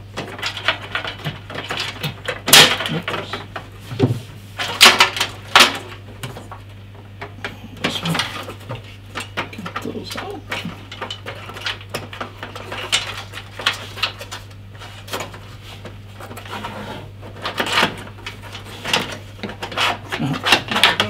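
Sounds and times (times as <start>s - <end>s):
cables clattering against metal panel: 0.0s - 21.0s
steady low hum: 0.0s - 21.0s.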